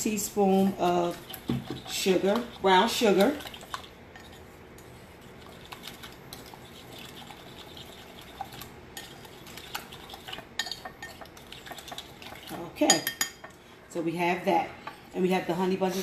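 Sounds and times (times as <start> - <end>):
utensil stirring eggs in bowl: 0.0 - 16.0.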